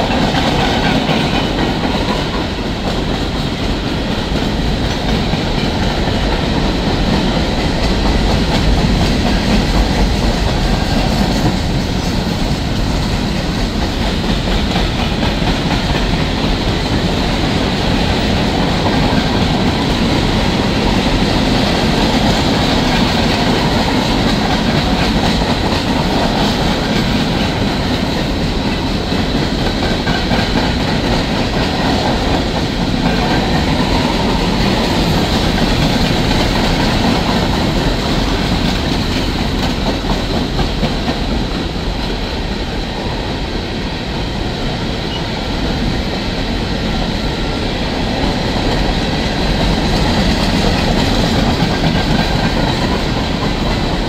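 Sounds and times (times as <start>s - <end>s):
steel wheels on rails: 0.0s - 54.0s.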